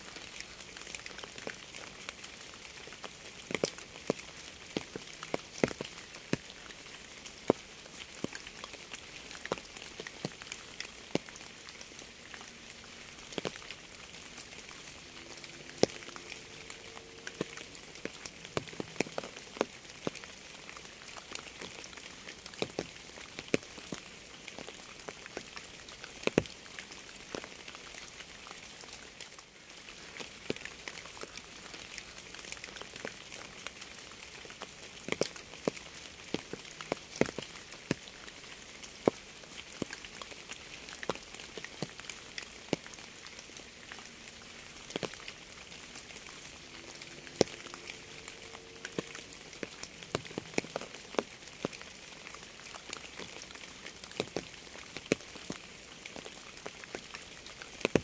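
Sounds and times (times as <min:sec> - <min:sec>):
raindrops ticking: 0:00.0 - 0:58.0
steady rain hiss: 0:00.0 - 0:58.0.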